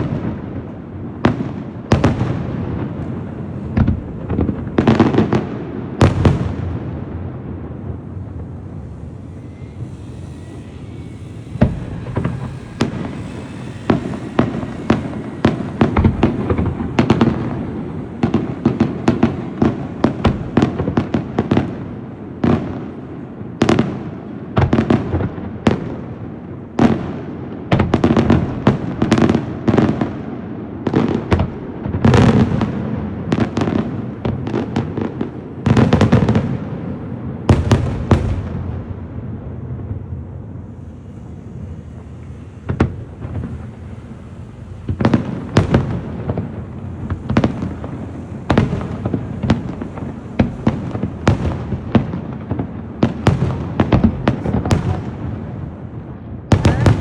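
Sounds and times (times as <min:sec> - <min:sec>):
fireworks bangs and cracks: 0:00.0 - 0:57.0.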